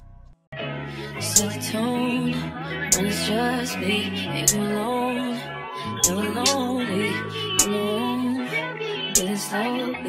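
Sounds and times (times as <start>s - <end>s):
slow song with singing: 0.6s - 10.0s.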